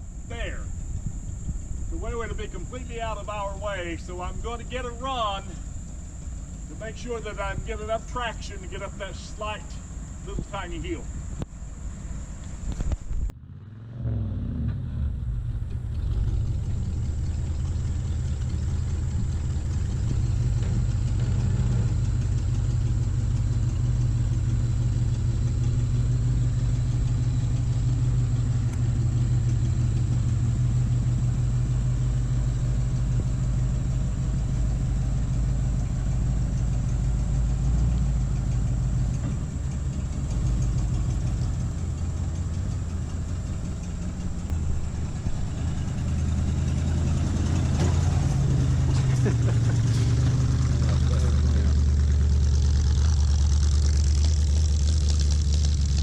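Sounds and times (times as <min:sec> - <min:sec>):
truck engine revving under load: 0:11.0 - 0:56.0.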